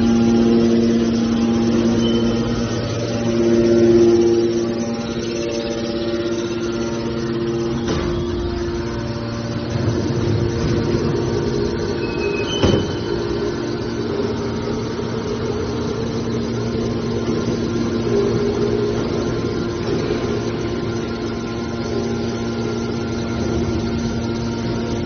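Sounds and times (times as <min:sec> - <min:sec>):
hydraulic pump motor humming: 0:00.0 - 0:25.0.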